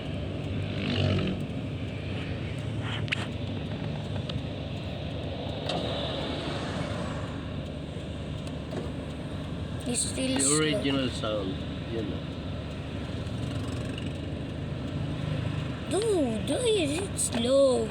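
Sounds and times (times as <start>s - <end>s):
low engine rumble: 0.0s - 17.9s.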